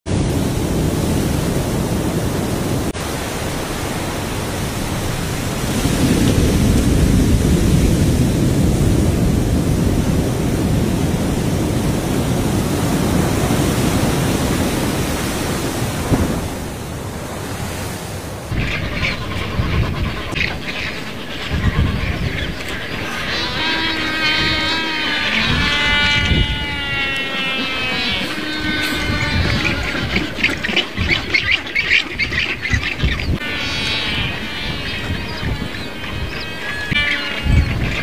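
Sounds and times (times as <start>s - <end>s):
surf rushing: 0.1s - 38.0s
wind roaring: 0.1s - 38.0s.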